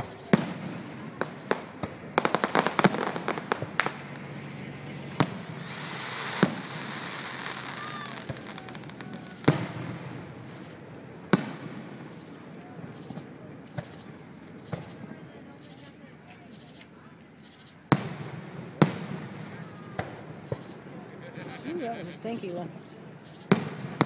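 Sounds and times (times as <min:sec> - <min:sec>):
fireworks bangs: 0:00.0 - 0:24.0
hissing crackle: 0:00.0 - 0:24.0.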